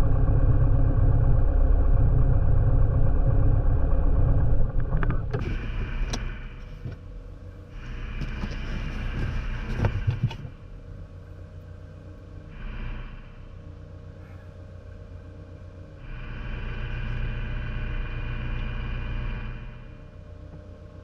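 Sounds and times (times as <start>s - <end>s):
piston aircraft engine: 0.0s - 21.0s.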